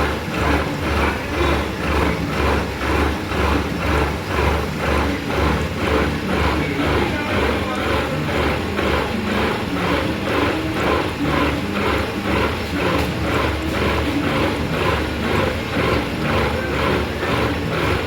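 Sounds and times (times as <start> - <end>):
lathe clatter: 0.0 - 18.0
lathe humming: 0.0 - 18.0.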